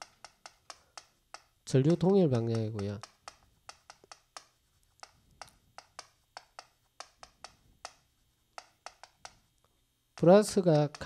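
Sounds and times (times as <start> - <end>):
chalk tapping on chalkboard: 0.0 - 9.5, 10.2 - 11.0.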